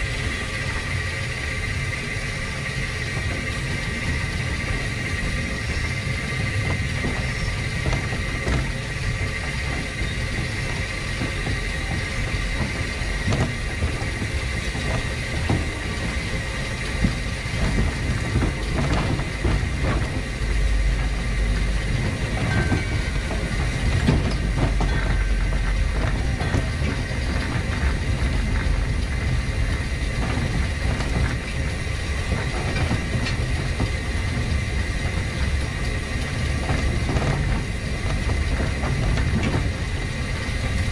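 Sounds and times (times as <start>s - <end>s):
constant steam hiss: 0.0s - 40.9s
wheels rumbling on rail: 0.0s - 40.9s.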